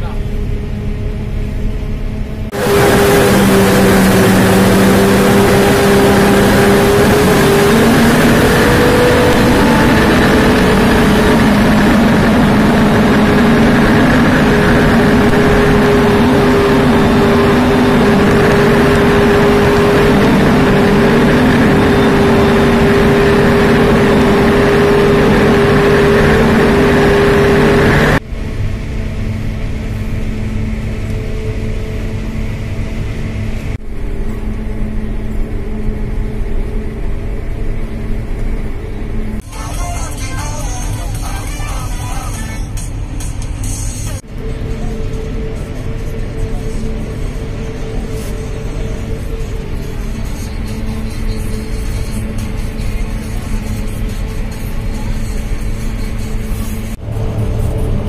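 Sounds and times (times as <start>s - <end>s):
forage harvester chopping with whine: 0.0s - 40.1s, 42.8s - 58.0s
tractor engine drone: 0.0s - 58.0s.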